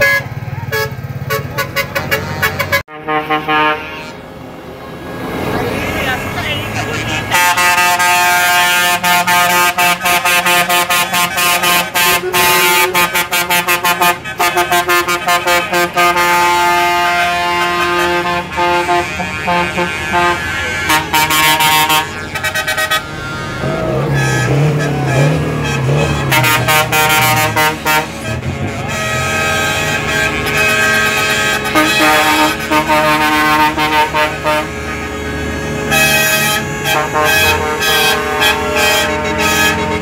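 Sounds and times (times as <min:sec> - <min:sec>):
truck air horns: 0:00.0 - 0:04.5, 0:05.8 - 0:40.0.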